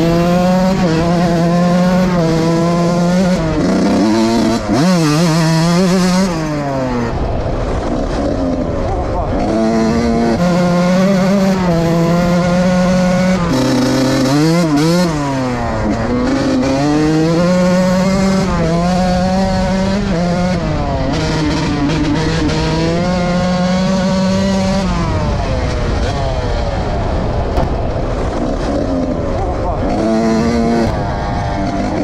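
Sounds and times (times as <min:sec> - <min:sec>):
motocross bike engine revving: 0:00.0 - 0:32.0.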